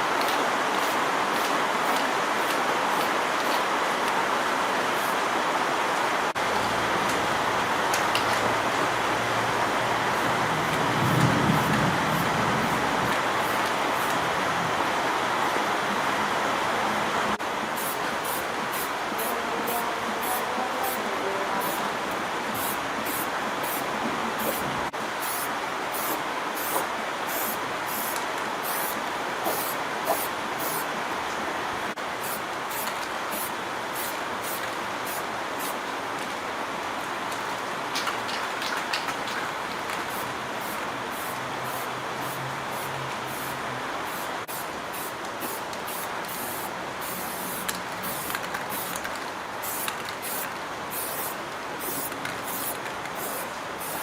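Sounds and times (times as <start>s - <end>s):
steady spraying hiss: 0.0s - 6.8s, 9.9s - 16.2s, 16.9s - 31.0s, 31.7s - 35.9s, 40.0s - 54.0s.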